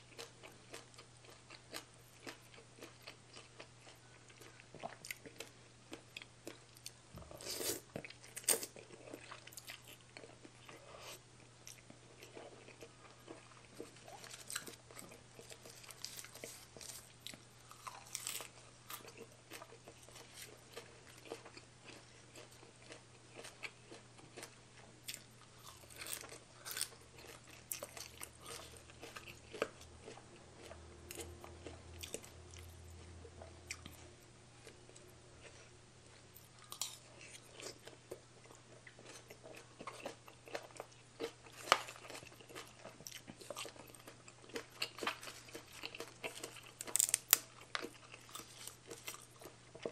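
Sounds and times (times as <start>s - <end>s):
person chewing crunchy food: 0.0s - 49.9s.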